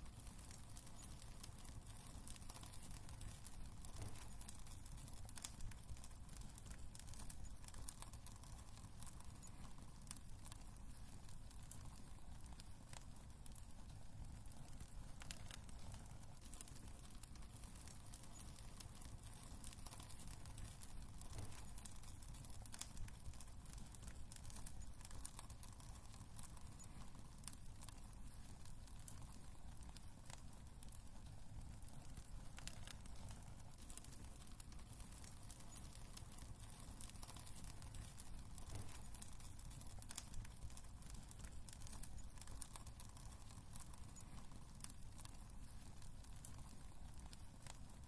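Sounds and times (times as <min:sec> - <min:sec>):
low rumble of burning logs: 0:00.0 - 0:48.0
wood fire crackling: 0:00.0 - 0:48.0.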